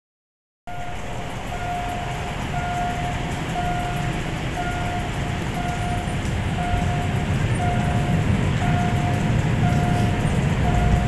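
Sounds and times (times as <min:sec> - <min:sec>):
level-crossing warning tone: 0:00.7 - 0:11.0
motorcycles and cars idling: 0:00.7 - 0:11.0.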